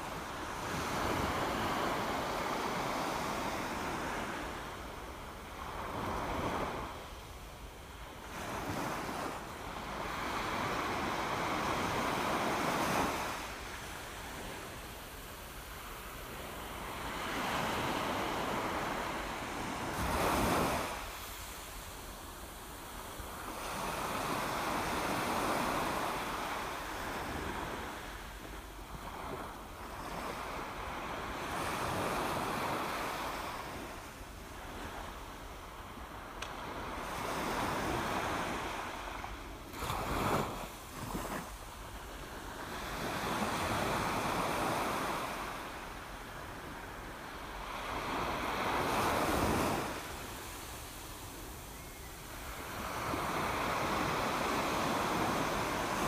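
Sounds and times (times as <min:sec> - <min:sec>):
sea surf on rocky shore: 0:00.0 - 0:56.0.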